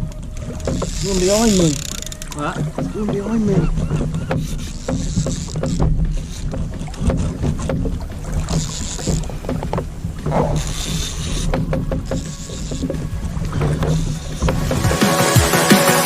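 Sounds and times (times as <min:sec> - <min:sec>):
handling knocks and clicks: 0:00.0 - 0:14.9
water splashing against hull: 0:00.0 - 0:16.0.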